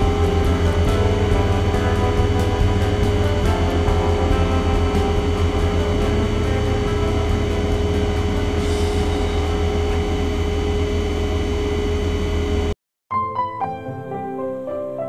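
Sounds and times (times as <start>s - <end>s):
soft piano music: 0.0s - 10.2s, 13.1s - 15.0s
ventilation and equipment hum: 0.0s - 12.7s.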